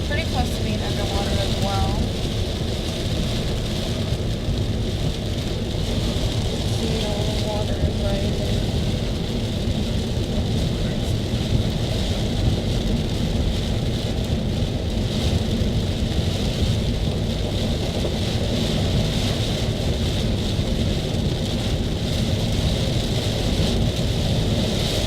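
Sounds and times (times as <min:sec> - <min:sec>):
car driving on road: 0:00.0 - 0:25.0.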